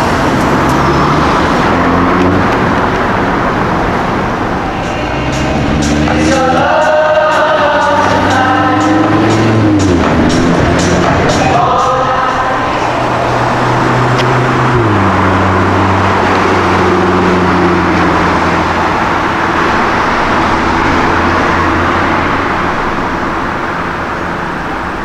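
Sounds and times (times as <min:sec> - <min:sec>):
car engine running: 0:00.0 - 0:25.0
road and traffic noise: 0:00.0 - 0:25.0.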